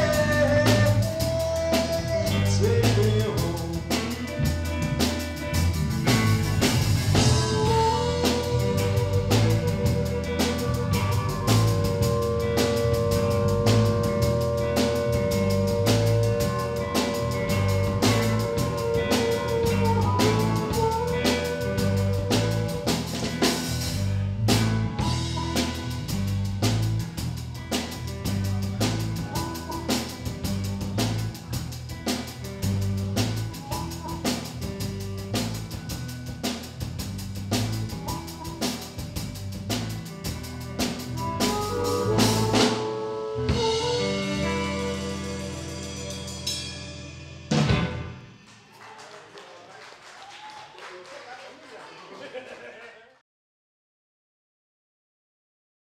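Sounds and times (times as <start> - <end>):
amplified blues harmonica: 0.0 - 47.6
drum kit beat: 0.0 - 48.8
blues band playing: 0.0 - 49.0.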